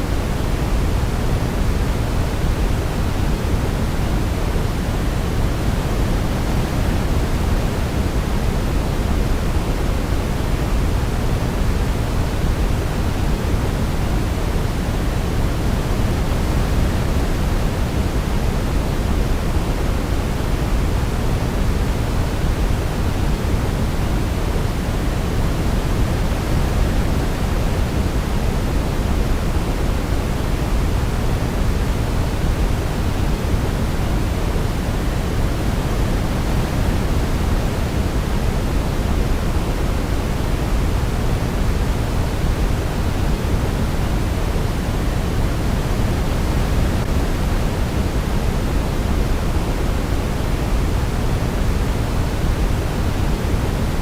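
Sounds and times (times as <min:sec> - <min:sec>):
deep white noise hiss: 0:00.0 - 0:54.0.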